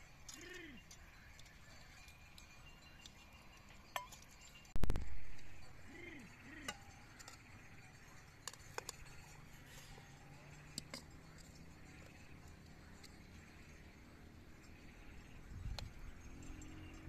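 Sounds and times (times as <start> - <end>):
utensils and dishes clinking: 0.0 - 14.8.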